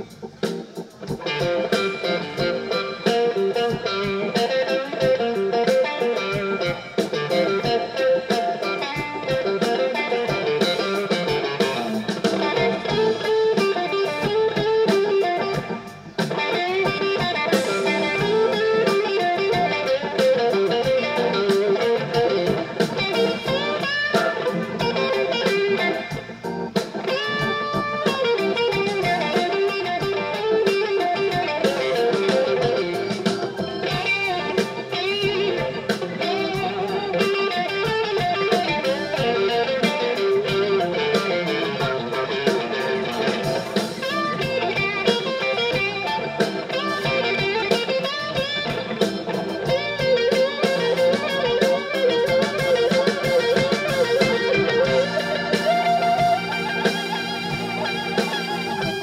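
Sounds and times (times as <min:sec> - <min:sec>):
electric guitar bending notes: 0:00.0 - 0:59.0
live blues band playing: 0:00.0 - 0:59.0.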